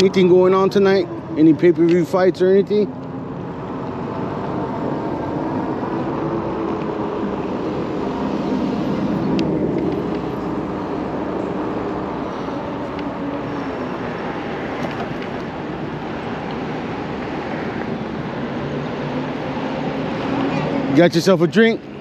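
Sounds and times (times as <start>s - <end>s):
tyre and road noise: 0.0s - 22.0s
wind rushing over microphone: 2.6s - 20.9s.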